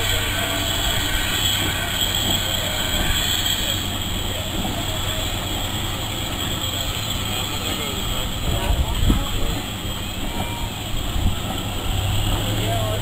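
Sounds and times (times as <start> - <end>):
steam train passing slowly: 0.0 - 13.0.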